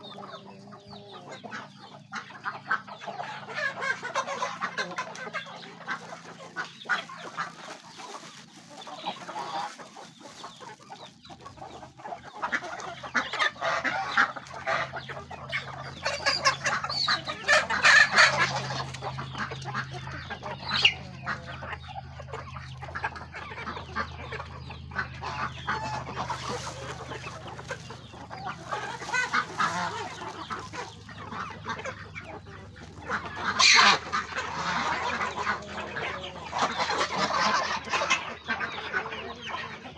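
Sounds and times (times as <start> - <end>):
geese calling: 0.0 - 39.9
hens clucking: 0.0 - 39.9.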